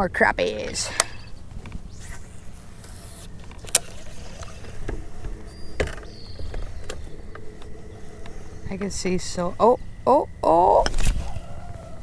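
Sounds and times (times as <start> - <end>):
electric motor humming: 0.8 - 10.4.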